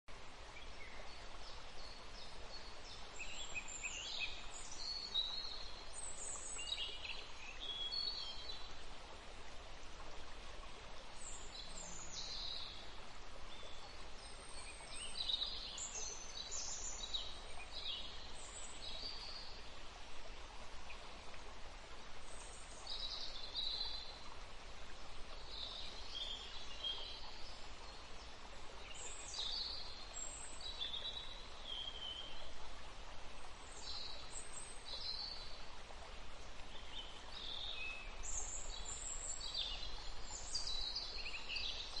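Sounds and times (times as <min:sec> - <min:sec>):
background hiss: 0:00.1 - 0:42.0.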